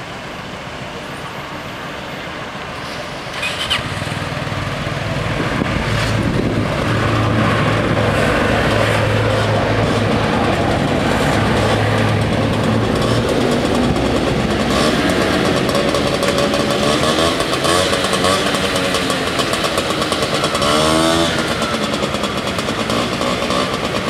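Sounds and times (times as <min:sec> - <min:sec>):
diesel railcar engine hum: 0:00.0 - 0:24.0.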